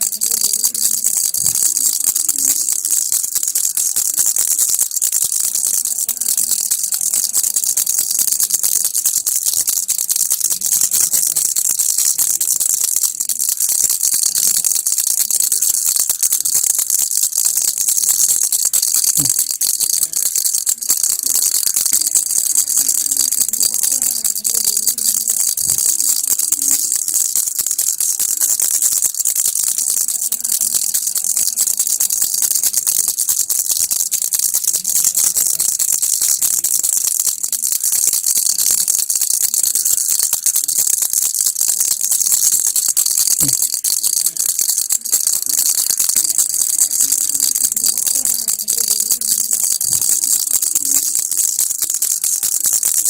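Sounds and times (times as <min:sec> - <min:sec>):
baby rattle shaken: 0:00.0 - 0:53.0.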